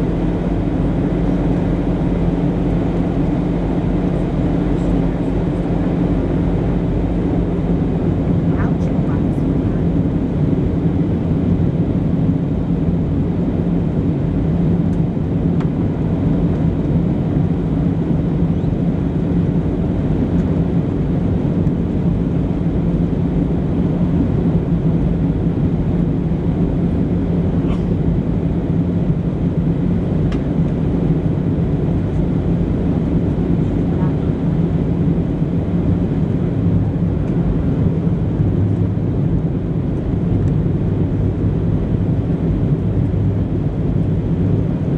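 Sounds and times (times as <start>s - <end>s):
aircraft cabin engine drone: 0.0s - 44.9s.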